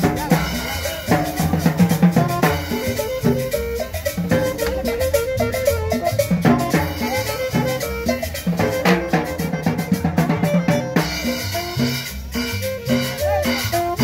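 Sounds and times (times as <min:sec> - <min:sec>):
upbeat latin dance music: 0:00.0 - 0:14.0.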